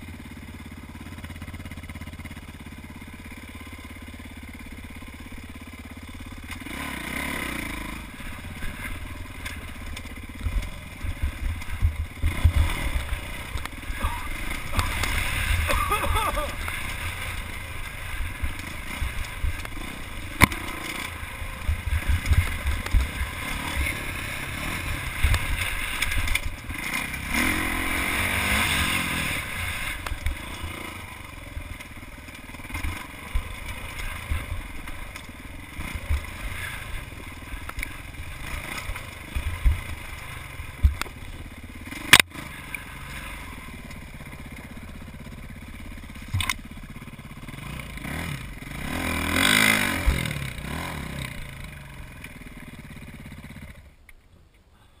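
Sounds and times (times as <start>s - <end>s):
motorcycle engine revving: 0.0s - 54.1s
tyres rumbling over rocks: 7.6s - 53.7s.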